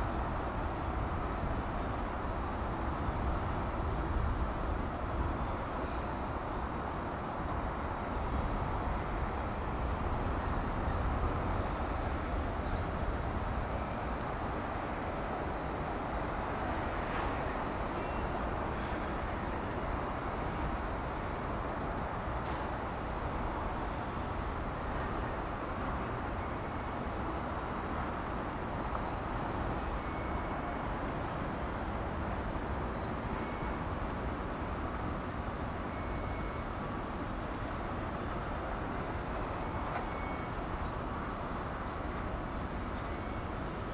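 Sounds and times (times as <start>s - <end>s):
outdoor background rumble: 0.0s - 43.9s.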